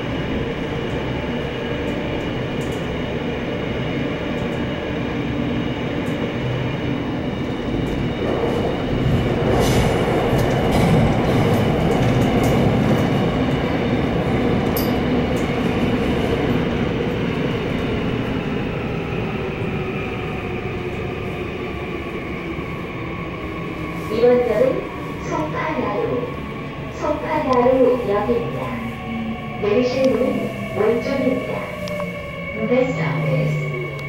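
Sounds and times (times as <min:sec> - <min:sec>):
train running whine: 0:00.0 - 0:34.0
train wheels rumbling on rail: 0:00.0 - 0:34.0.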